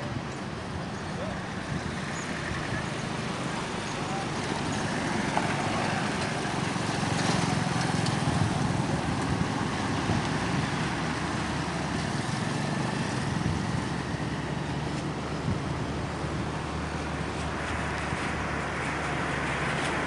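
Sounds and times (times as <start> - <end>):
motorcycles driving past: 1.2 - 20.0
small truck driving past: 1.5 - 20.0.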